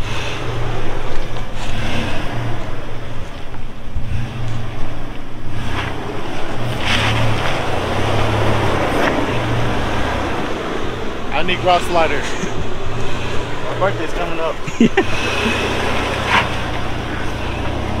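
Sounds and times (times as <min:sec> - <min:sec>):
engine rumbling at low revs: 0:00.0 - 0:18.0.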